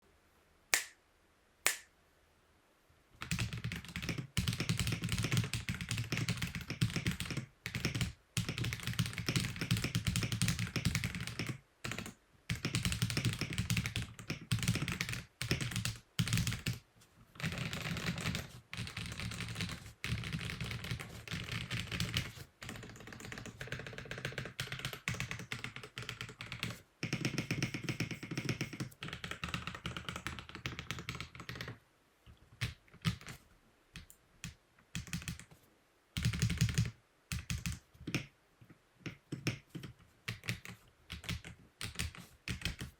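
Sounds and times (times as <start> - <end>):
mechanical keyboard typing: 3.2 - 16.8, 17.4 - 31.8, 32.6 - 33.4, 34.0 - 35.5, 36.2 - 38.3, 39.1 - 42.9.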